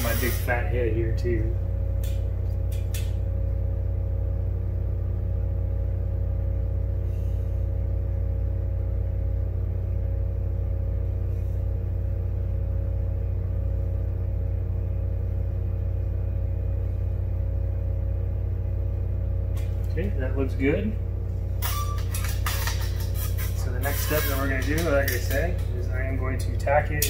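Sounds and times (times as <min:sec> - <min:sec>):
low equipment hum: 0:00.0 - 0:27.0.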